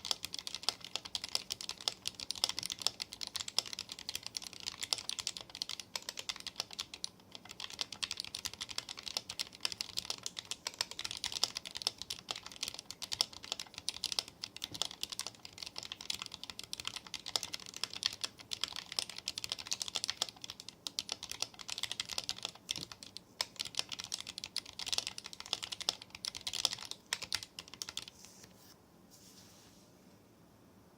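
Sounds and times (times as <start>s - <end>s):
typing on mechanical keyboard: 0.0s - 28.1s.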